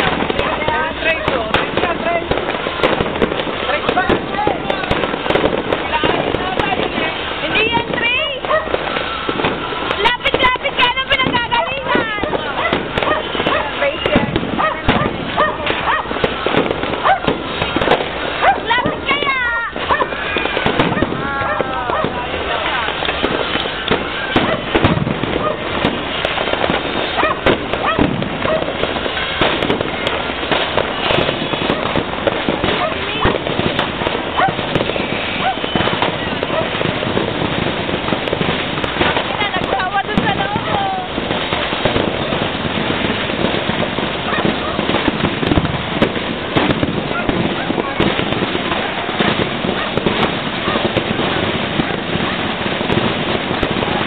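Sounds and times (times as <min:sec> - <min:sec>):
fireworks bangs and crackling: 0:00.0 - 0:54.0
people's voices: 0:00.0 - 0:54.0.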